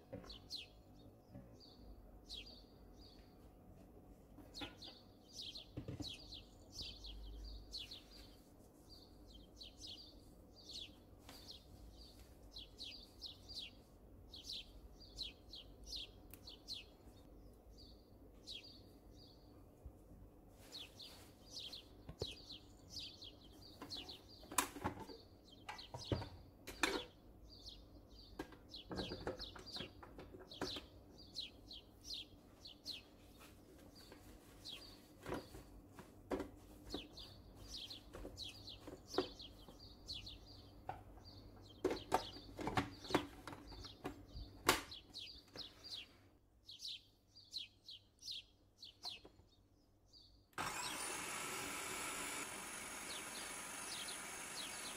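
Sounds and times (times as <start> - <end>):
small bird chirping: 0.1 - 3.4, 4.4 - 19.5, 20.6 - 35.7, 36.8 - 54.9.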